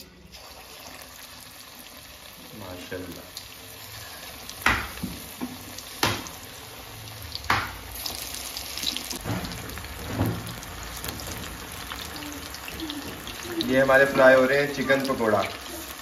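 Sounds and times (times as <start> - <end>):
food deep-frying in hot oil: 0.0 - 16.0
oil spitting and sizzling: 0.0 - 16.0.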